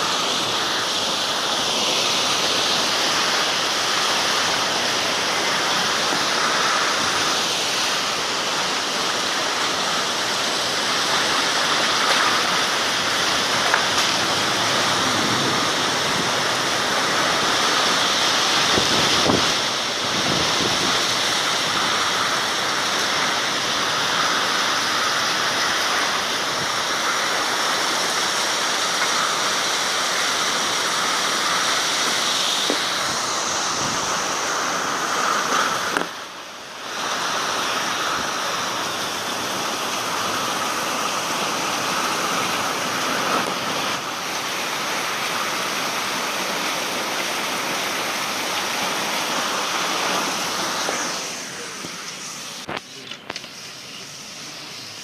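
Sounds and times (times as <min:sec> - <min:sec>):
strong wind: 0:00.0 - 0:52.8
heavy rain: 0:00.0 - 0:55.0.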